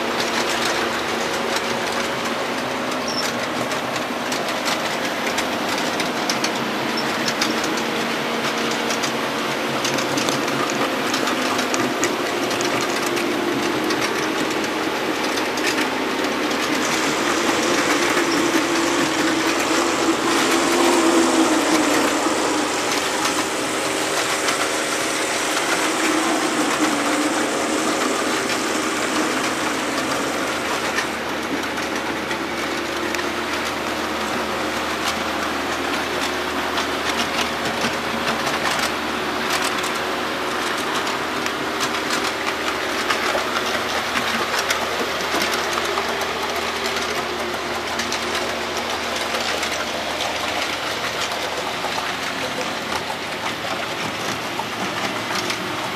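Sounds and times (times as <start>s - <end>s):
model train running: 0.0s - 55.9s
wheels clicking over track: 0.0s - 55.9s.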